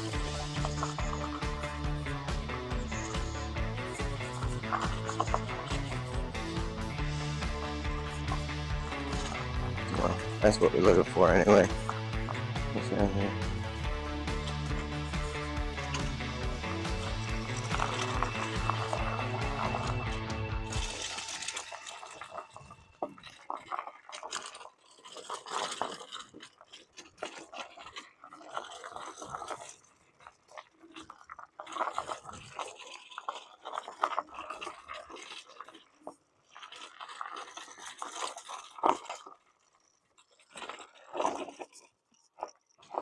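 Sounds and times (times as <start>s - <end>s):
crunching and scraping on dirt: 0.0s - 43.0s.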